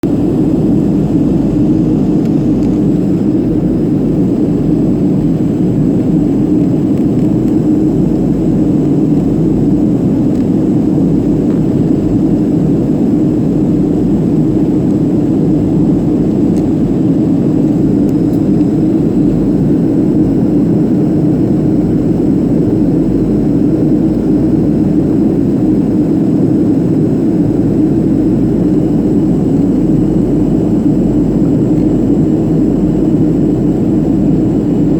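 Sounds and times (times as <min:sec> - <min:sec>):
aircraft cabin engine roar: 0:00.0 - 0:34.9.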